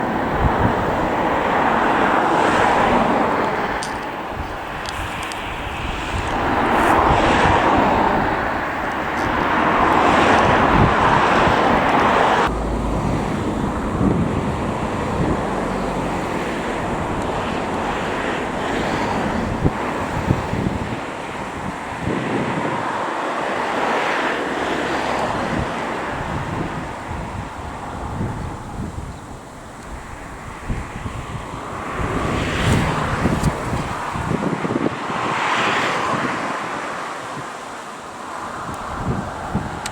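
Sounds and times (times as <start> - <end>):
aircraft rushing noise: 0.0 - 29.0, 29.8 - 37.1
wind buffeting microphone: 0.0 - 39.9.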